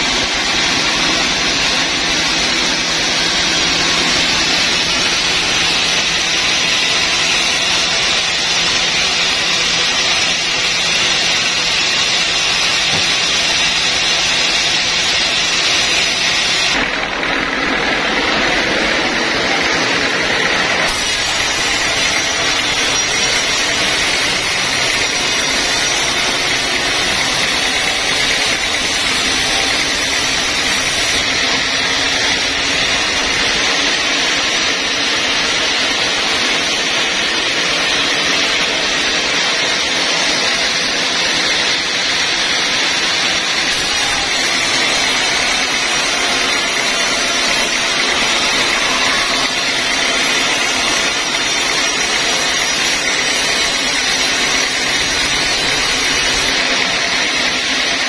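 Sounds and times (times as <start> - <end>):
band saw cutting log: 0.0 - 58.0
band saw running idle: 0.0 - 58.0.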